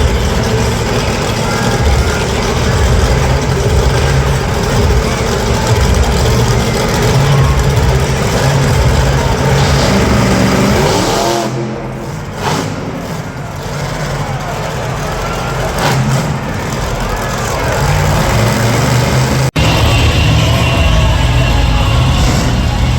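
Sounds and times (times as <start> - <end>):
monster truck engine revving: 0.0 - 22.9.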